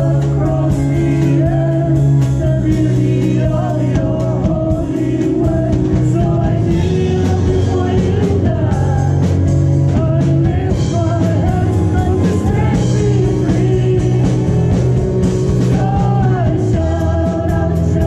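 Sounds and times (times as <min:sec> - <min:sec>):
guitar: 0:00.0 - 0:18.0
keyboard: 0:00.0 - 0:18.0
low bass: 0:00.0 - 0:18.0
voices singing together: 0:00.0 - 0:18.0.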